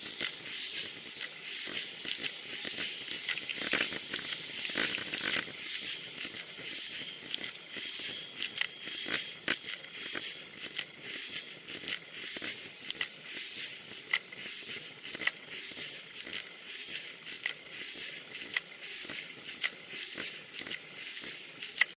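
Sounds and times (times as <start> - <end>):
sharp ticks and knocks: 0.0 - 22.0
tyre spray and rain hiss: 0.0 - 22.0.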